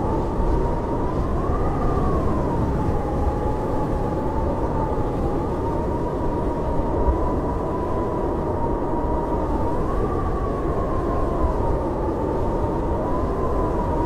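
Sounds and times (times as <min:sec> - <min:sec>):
howling blizzard wind: 0:00.0 - 0:14.0.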